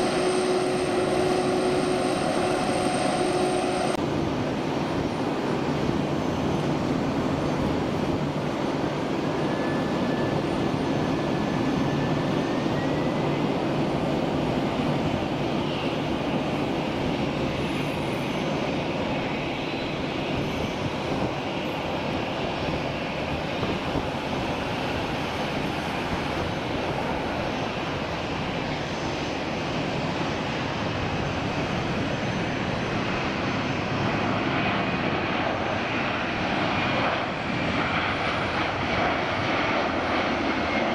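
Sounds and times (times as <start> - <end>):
jet engines rushing hum: 0.0 - 40.9.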